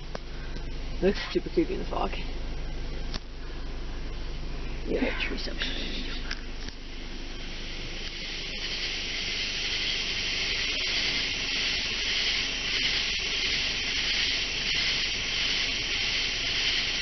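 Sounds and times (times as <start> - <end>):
car engine idling: 0.0 - 17.0
night insects chorus: 0.0 - 17.0.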